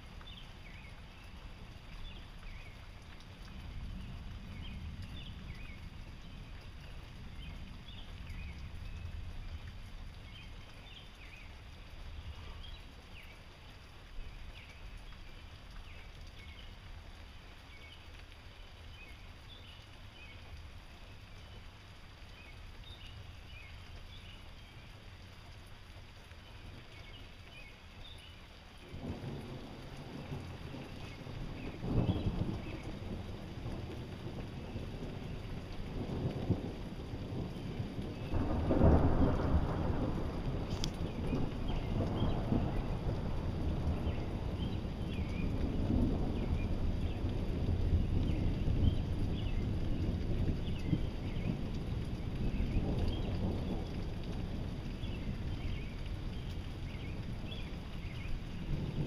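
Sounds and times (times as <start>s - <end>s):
storm rumble and hiss: 0.0s - 59.0s.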